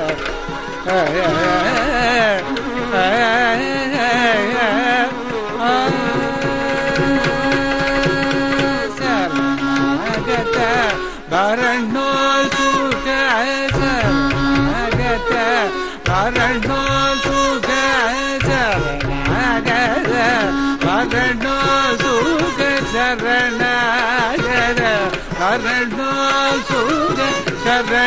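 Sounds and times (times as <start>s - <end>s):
man singing: 0.0s - 28.0s
violin melody: 0.0s - 28.0s.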